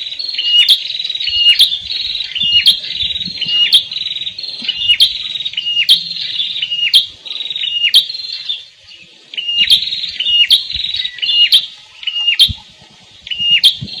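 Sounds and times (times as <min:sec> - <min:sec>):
bird singing buzzy trills: 0:00.0 - 0:12.6, 0:13.2 - 0:14.0.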